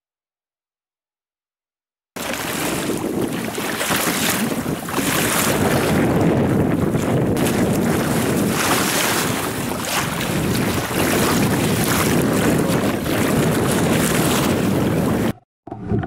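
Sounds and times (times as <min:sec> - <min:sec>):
sea water splashing: 0:02.2 - 0:16.0
wind buffeting microphone: 0:02.2 - 0:16.0.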